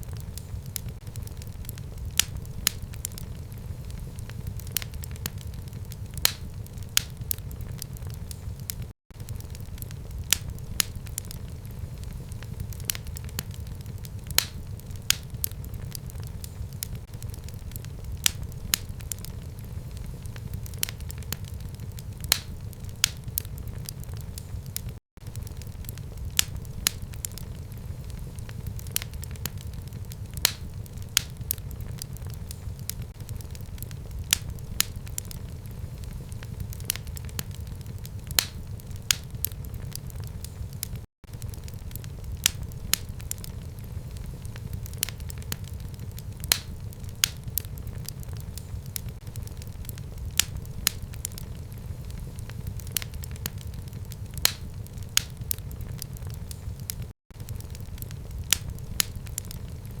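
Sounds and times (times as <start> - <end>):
fire burning in fireplace: 0.0 - 60.0
fire crackling and popping: 0.0 - 60.0.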